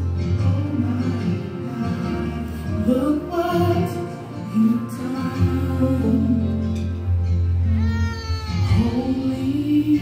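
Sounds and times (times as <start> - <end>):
gospel song with guitar and bass: 0.0 - 10.0
person singing: 0.0 - 10.0.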